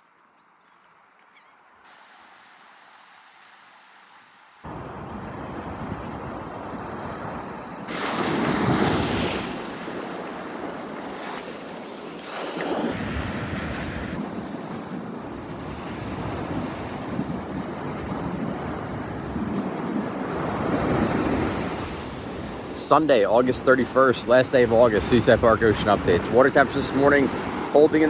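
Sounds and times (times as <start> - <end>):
ocean surf breaking: 1.9 - 28.0
wind buffeting microphone: 4.7 - 28.0.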